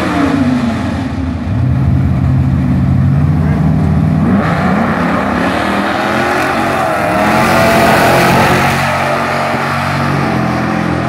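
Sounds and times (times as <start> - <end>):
car engine at full throttle: 0.0 - 11.0
second car engine: 0.0 - 11.0.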